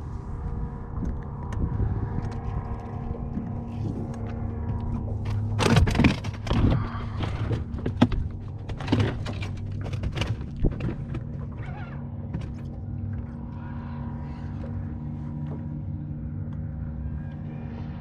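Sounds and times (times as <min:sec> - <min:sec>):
boat motor hum: 0:00.0 - 0:18.0.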